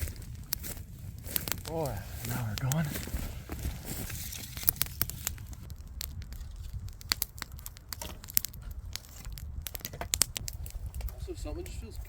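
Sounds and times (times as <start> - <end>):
low rumble: 0.0 - 11.3
campfire crackling and popping: 0.0 - 12.0.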